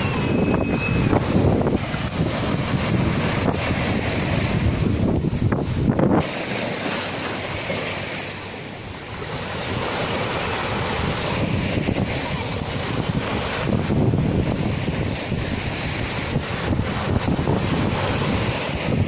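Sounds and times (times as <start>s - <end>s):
wind buffeting microphone: 0.0s - 6.4s, 9.0s - 19.0s
sea waves washing on shore: 0.0s - 19.0s.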